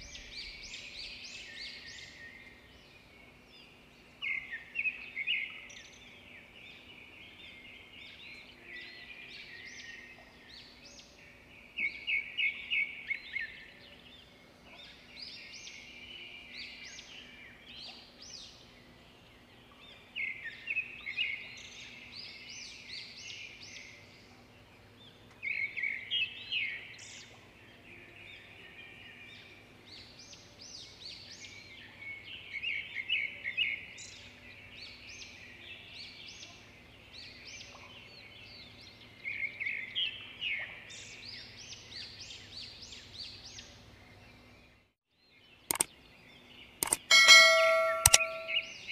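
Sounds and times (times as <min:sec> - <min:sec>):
songbirds chirping and trilling: 0:00.0 - 0:48.9.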